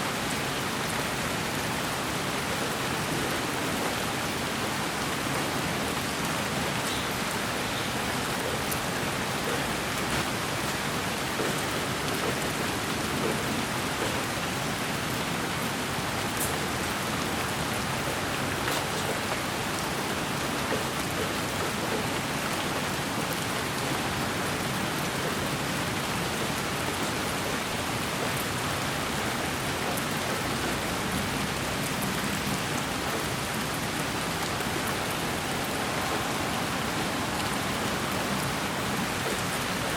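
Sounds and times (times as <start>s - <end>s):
rain-like white noise hiss: 0.0s - 39.9s.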